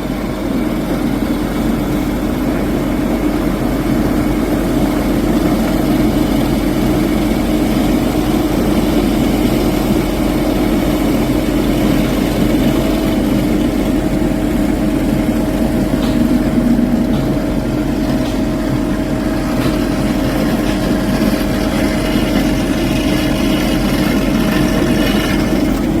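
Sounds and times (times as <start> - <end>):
heavy machinery engine humming: 0.0 - 26.0.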